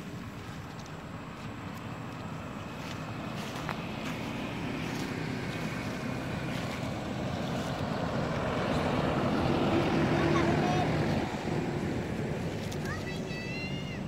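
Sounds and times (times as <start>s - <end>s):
motor engine rumbling: 0.0s - 14.0s.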